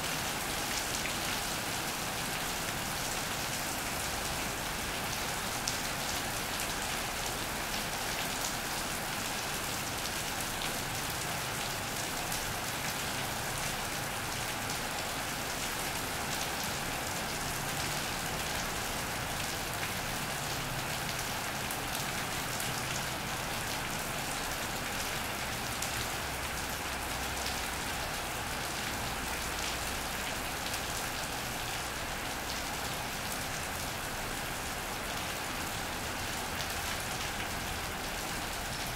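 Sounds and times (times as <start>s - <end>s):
rain on an iron roof: 0.0s - 38.9s.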